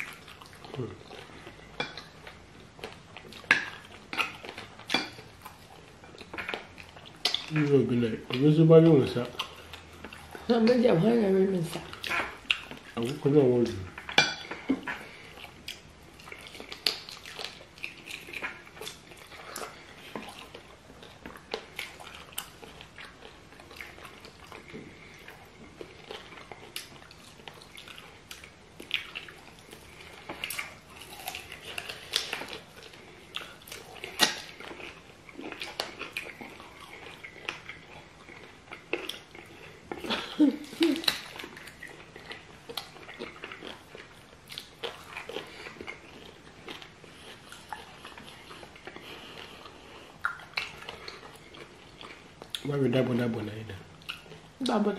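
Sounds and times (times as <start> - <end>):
crunches and clicks of chewing: 0.0 - 10.8, 11.6 - 54.9
people chewing: 0.0 - 54.9.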